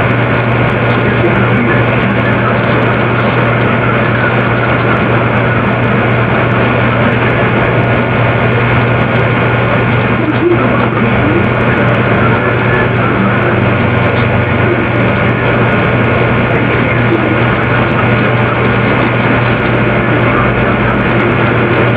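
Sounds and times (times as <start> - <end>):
loud droning with low hum: 0.0 - 21.9.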